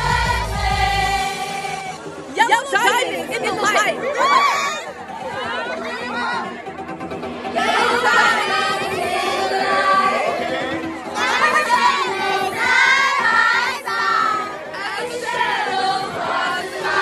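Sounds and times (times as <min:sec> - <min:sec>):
women singing together: 0:00.0 - 0:05.4, 0:07.5 - 0:17.0
music: 0:00.0 - 0:17.0.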